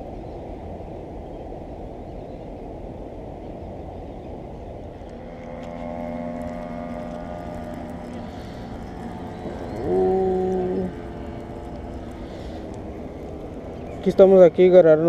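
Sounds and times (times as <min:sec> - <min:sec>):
steady droning hum: 0:00.0 - 0:15.0
wind buffeting microphone: 0:00.0 - 0:15.0.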